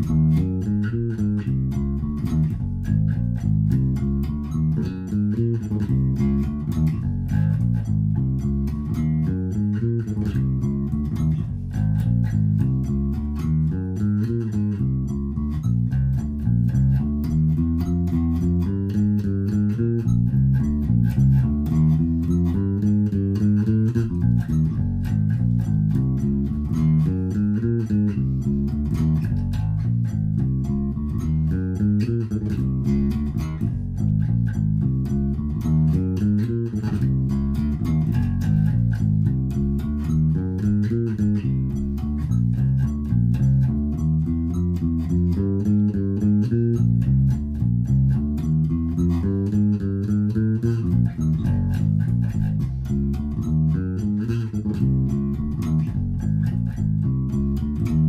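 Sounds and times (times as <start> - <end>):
electric bass guitar fingerstyle: 0.0 - 58.0.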